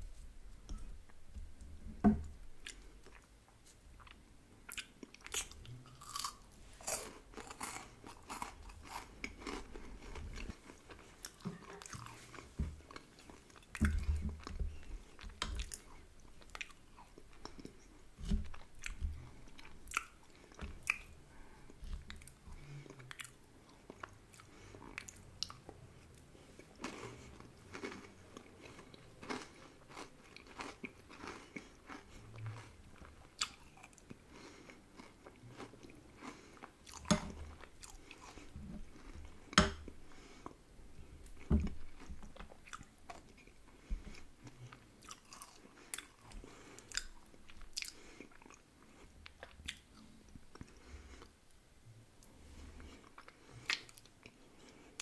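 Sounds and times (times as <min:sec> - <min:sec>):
chewing and crunching: 0:04.0 - 0:51.3.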